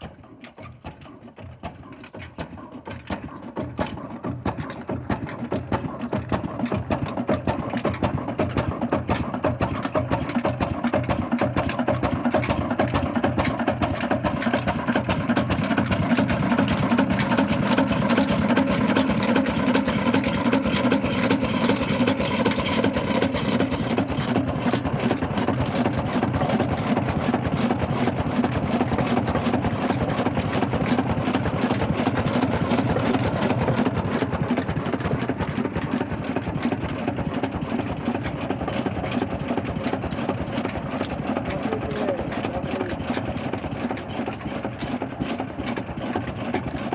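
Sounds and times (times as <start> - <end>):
stationary diesel engine running: 0.0 - 46.9.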